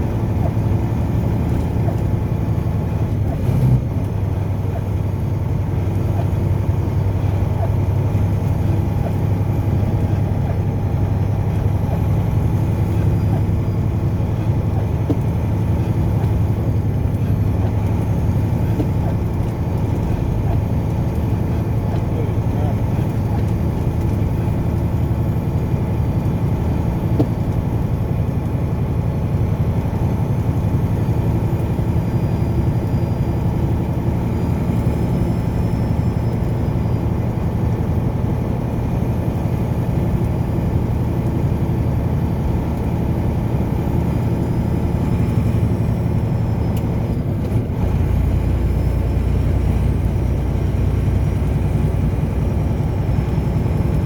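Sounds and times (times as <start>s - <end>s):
car engine: 0.0s - 54.0s
road rumble: 0.0s - 54.0s.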